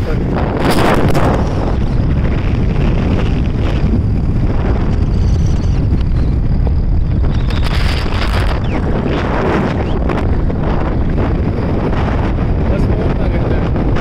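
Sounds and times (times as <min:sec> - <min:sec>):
car road and engine noise: 0:00.0 - 0:14.0
wind buffeting microphone: 0:00.0 - 0:14.0.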